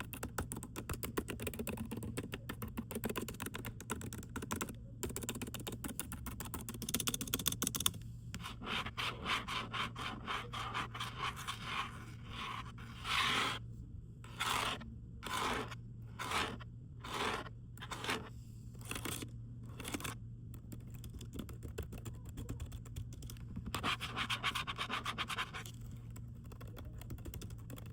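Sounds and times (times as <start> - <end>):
scratching on keyboard: 0.0 - 13.6, 14.3 - 27.9.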